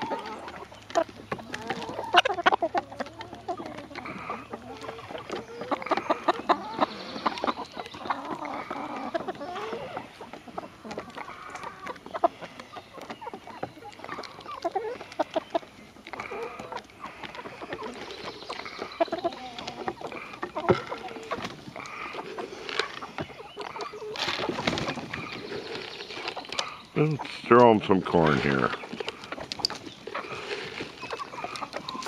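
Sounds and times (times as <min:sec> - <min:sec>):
hens clucking: 0:00.0 - 0:32.0.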